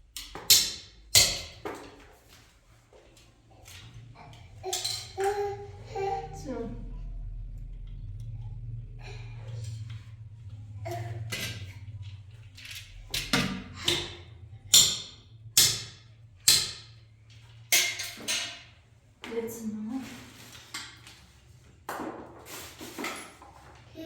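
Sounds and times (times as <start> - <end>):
low steady hum: 0.9 - 21.7.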